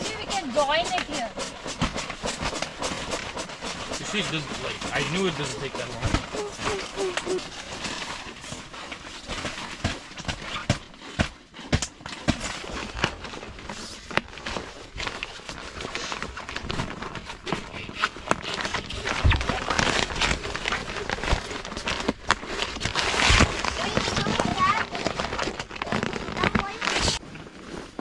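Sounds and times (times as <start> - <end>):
objects knocking and clicking: 0.0 - 27.2
rustling of handled things: 0.0 - 28.0.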